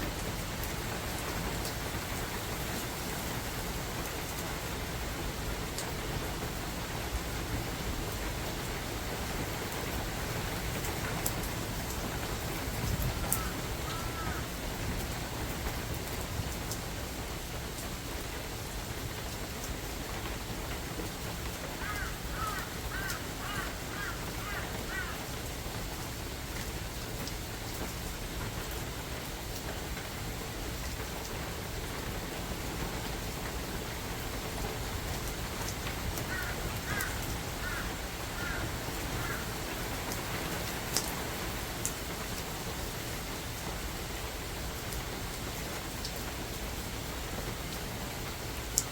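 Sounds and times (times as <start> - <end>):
rain falling on leaves: 0.0 - 48.9.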